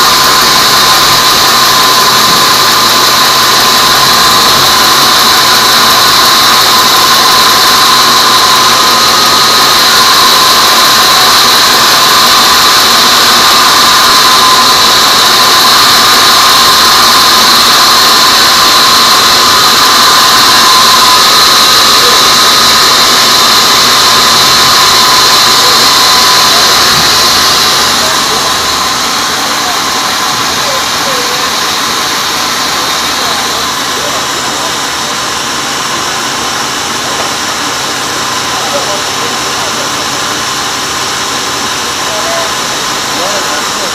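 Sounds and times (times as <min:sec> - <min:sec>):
band saw cutting wood: 0:00.0 - 0:43.9
high-pitched blade whine: 0:00.0 - 0:43.9.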